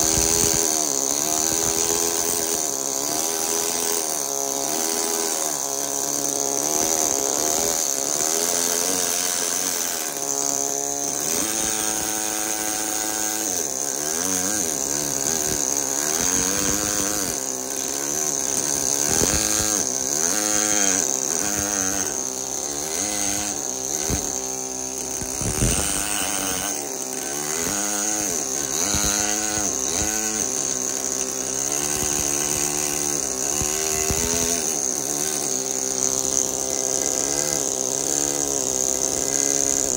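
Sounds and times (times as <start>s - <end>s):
pneumatic hammer chiseling marble: 0.0s - 39.9s.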